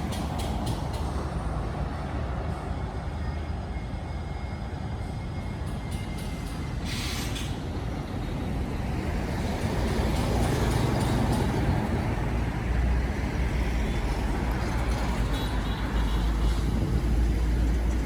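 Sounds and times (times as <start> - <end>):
highway traffic rumble: 0.0 - 18.0.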